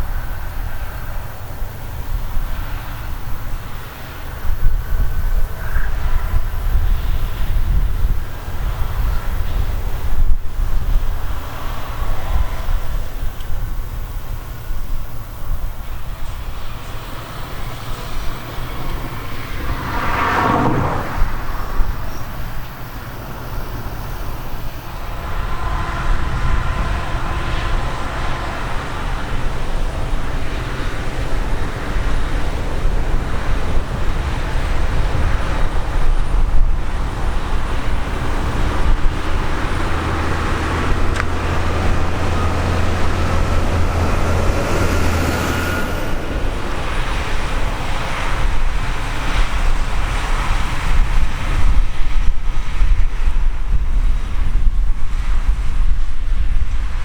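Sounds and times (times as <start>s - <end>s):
harvest machinery engine rumble: 0.0s - 50.5s
machinery whine: 0.0s - 50.8s.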